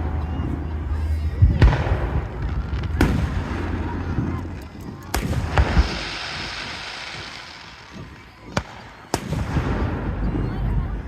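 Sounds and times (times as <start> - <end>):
firework crackle: 0.0 - 11.0.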